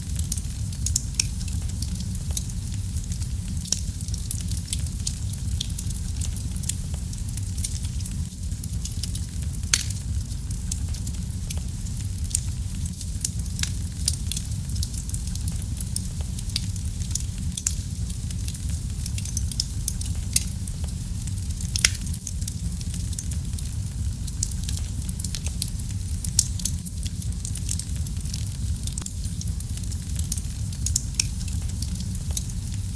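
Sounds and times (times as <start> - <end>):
fireplace fire crackling: 0.0 - 32.9.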